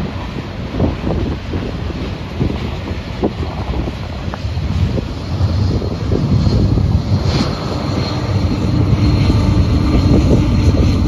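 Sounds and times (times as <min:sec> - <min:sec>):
diesel locomotive drone: 0:00.0 - 0:11.0
freight train cars rumbling: 0:00.0 - 0:11.0.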